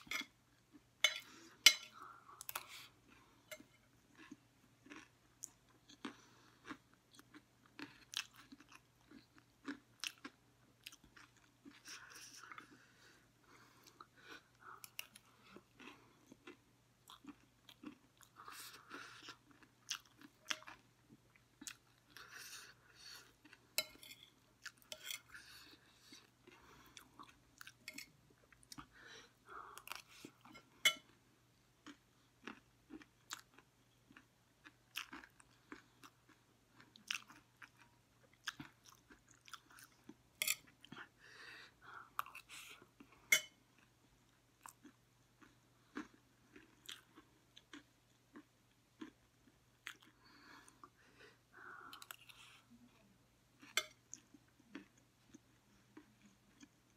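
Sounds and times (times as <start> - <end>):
person chewing crunchy snack: 0.0 - 12.9, 13.8 - 31.2, 31.8 - 41.2, 42.0 - 51.0.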